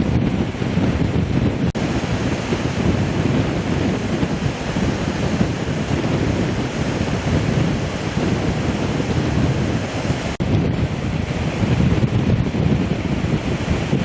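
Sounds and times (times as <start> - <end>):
floodwater rushing through barrage: 0.0 - 14.0
wind buffeting microphone: 0.0 - 14.0.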